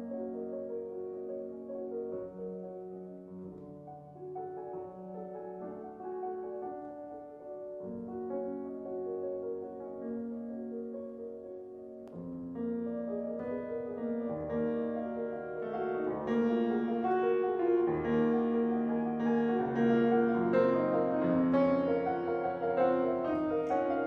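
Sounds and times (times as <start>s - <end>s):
solo piano classical music: 0.0s - 24.0s.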